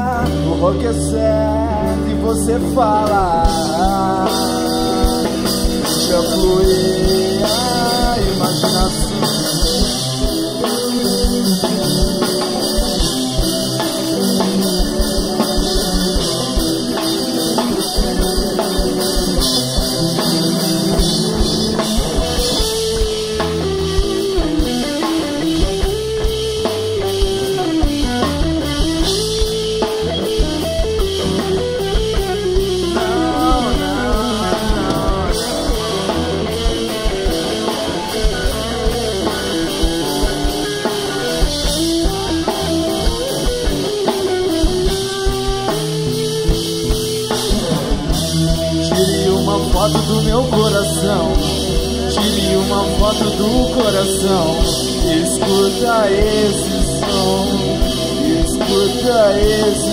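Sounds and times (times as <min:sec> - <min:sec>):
drum kit: 0:00.0 - 0:59.9
electric guitar melody: 0:00.0 - 0:59.9.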